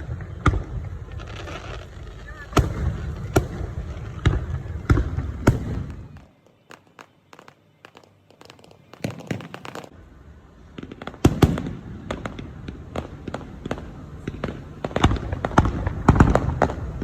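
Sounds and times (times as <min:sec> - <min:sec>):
firecrackers bursting: 0:00.0 - 0:17.0.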